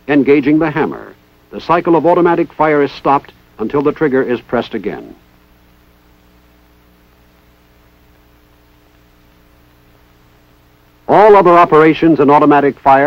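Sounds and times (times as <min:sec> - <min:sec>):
electrical hum: 0:00.0 - 0:13.0
faint hiss: 0:00.0 - 0:13.0.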